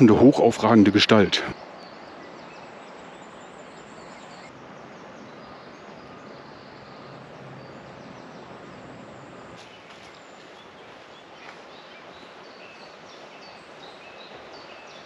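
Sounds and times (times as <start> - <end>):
faint bird chirps: 0.0 - 15.0
steady background rush: 0.0 - 15.0.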